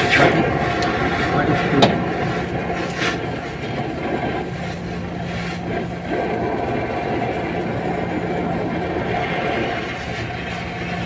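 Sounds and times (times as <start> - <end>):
low hum: 0.0 - 11.0
torch flame rushing: 0.0 - 11.0.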